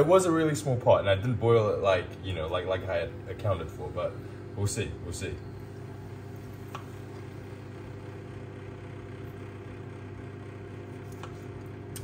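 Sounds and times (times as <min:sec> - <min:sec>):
motor humming: 0:01.7 - 0:12.0.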